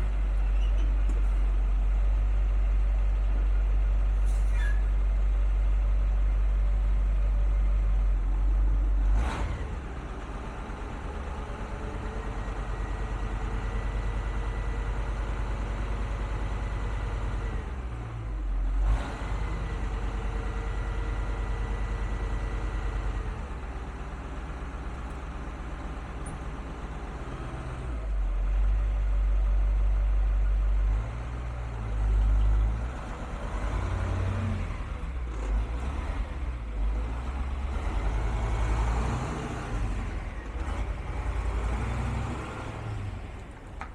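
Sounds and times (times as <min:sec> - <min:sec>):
truck engine rumbling: 0:00.0 - 0:43.9.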